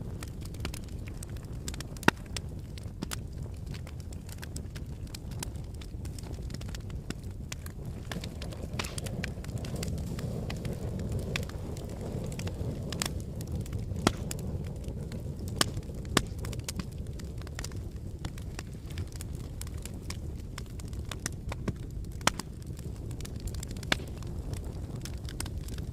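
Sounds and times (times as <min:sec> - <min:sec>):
burning wood crackling and popping: 0:00.0 - 0:25.9
fire flames rumbling: 0:00.0 - 0:25.9.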